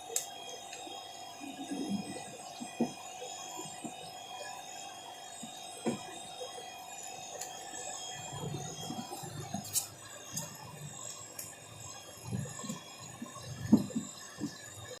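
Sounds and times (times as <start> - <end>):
faint multi-tone hum: 0.0 - 15.0.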